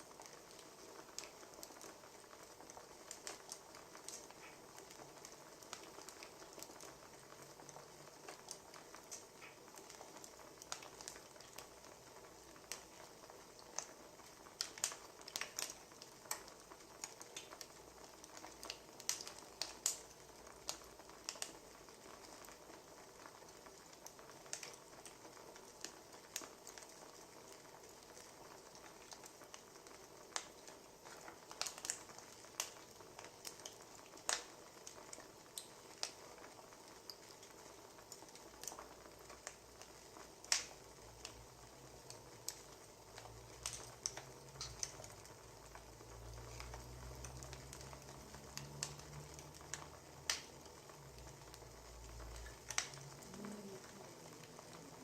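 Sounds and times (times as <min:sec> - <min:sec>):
firewood crackling: 0:00.0 - 0:55.0
soft steady hiss: 0:00.0 - 0:55.0.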